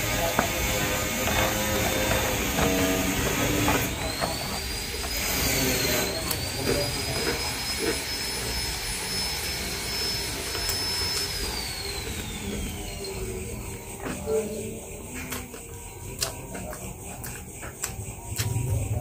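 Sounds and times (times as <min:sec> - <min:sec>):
motor whining: 0:00.0 - 0:19.0.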